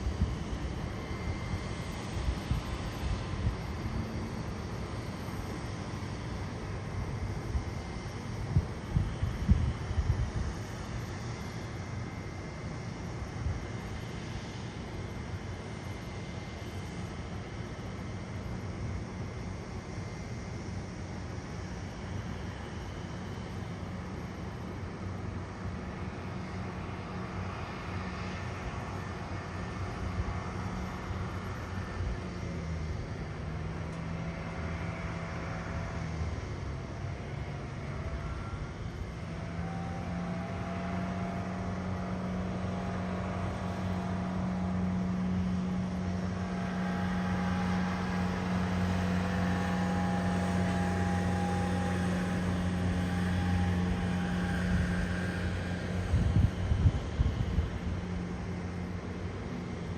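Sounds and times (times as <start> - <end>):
aircraft mechanical hum: 0.0 - 59.9.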